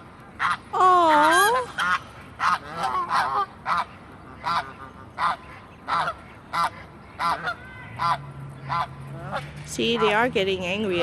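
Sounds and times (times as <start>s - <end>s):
goose honking: 1.5s - 10.3s.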